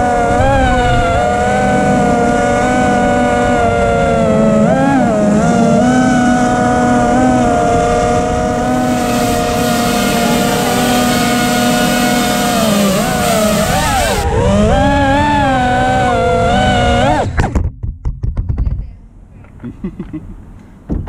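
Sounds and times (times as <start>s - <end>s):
drone motors whining: 0.0s - 17.5s.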